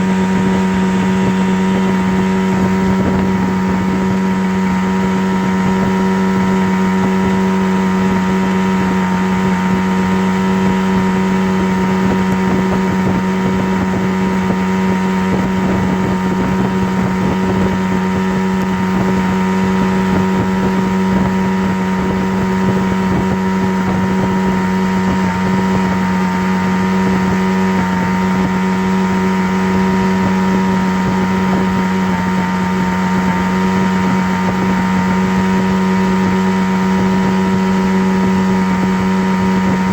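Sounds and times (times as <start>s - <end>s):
steady motor drone with buzz: 0.0s - 39.9s.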